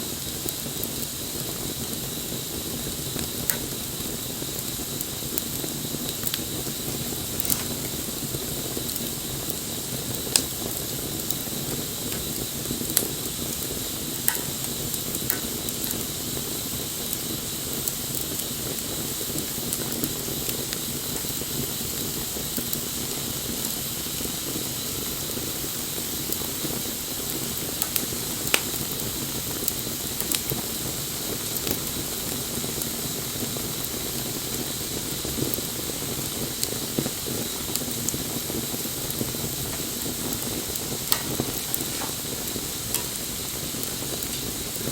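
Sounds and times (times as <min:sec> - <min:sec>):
fire crackles and pops: 0:00.0 - 0:44.9
wood fire hissing: 0:00.0 - 0:44.9.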